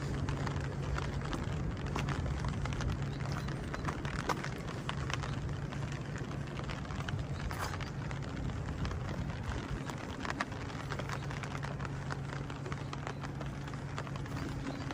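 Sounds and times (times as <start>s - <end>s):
low rumble: 0.0s - 14.9s
rain falling: 0.0s - 14.9s
raindrops ticking on surfaces: 0.0s - 14.9s.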